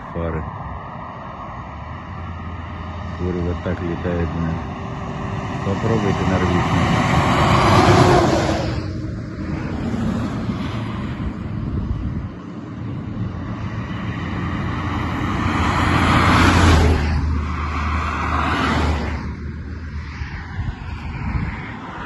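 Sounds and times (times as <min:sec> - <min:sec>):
car passing: 0:00.0 - 0:22.0
semi-truck passing: 0:00.0 - 0:22.0
truck engine hum: 0:00.0 - 0:22.0.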